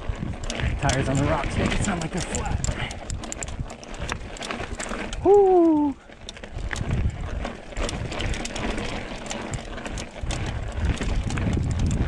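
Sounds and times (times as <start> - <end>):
bike rattling over bumps: 0.0 - 12.0
bike tyres rumbling on rock: 0.0 - 12.0
wind rumble on microphone: 0.0 - 12.0.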